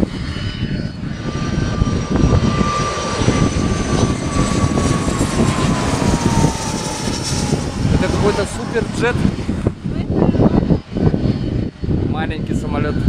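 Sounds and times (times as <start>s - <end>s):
jet airliner passing overhead: 0.0s - 13.0s
jet engine whine: 0.0s - 13.0s
low rumble: 0.0s - 13.0s.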